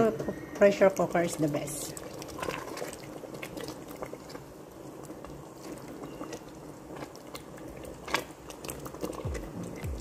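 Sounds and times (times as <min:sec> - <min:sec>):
meat sauce bubbling: 0:00.0 - 0:10.0
spatula stirring sauce: 0:01.8 - 0:10.0.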